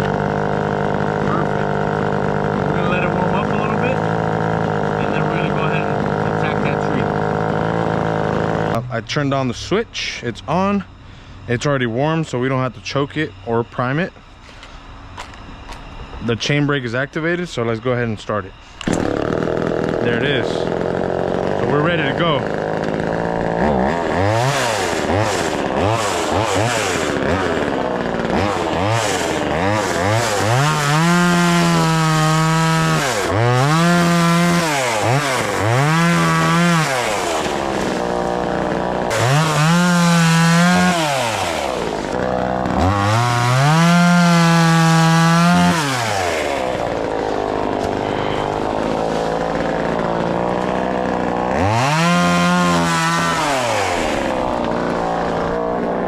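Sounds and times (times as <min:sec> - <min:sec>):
chainsaw revving and idling: 0:00.0 - 0:09.4, 0:18.8 - 0:56.0.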